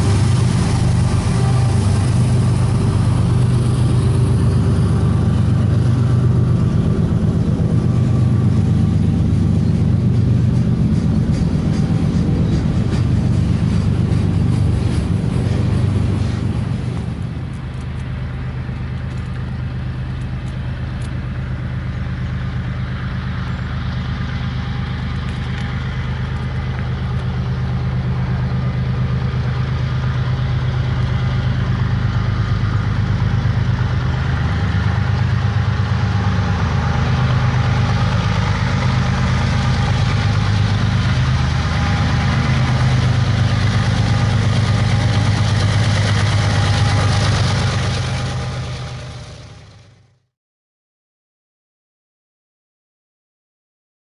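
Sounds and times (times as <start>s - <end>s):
diesel locomotive engines droning: 0.0s - 50.3s.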